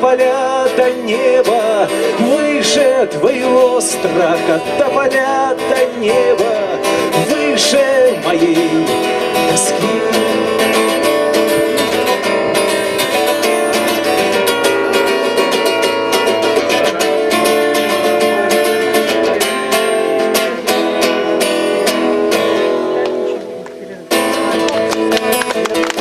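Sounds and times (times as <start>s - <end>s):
live band playing: 0.0s - 26.0s
strummed acoustic guitar: 0.0s - 26.0s.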